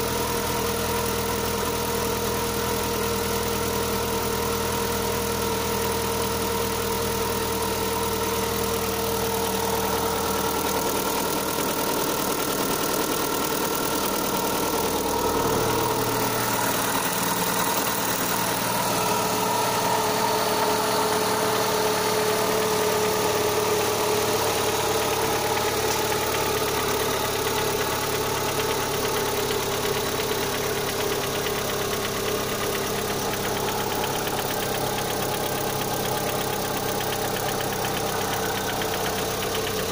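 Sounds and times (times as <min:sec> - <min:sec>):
car engine idling: 0:00.0 - 0:39.9
engine knock: 0:00.0 - 0:39.9.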